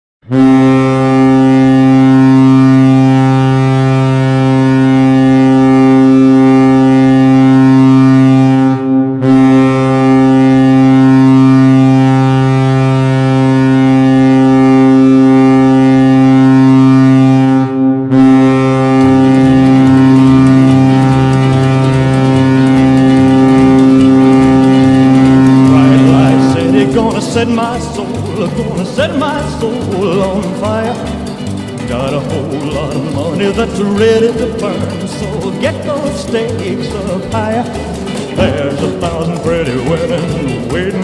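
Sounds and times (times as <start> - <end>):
deep loud goal horn blasts: 0.2 - 41.0.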